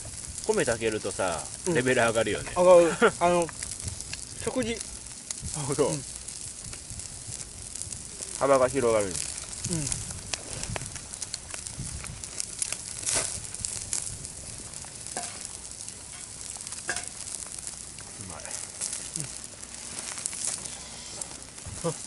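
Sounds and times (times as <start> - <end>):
food sizzling on a grill: 0.0 - 22.0
wood fire crackling: 0.0 - 22.0.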